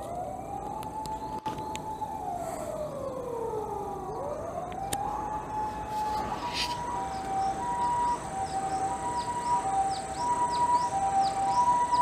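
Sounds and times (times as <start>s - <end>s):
wailing siren-like tone: 0.0s - 12.0s.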